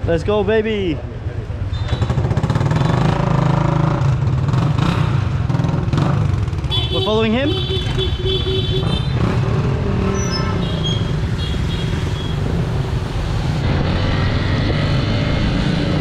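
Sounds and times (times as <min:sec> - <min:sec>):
dirt bike engine rumbling: 0:00.0 - 0:16.0.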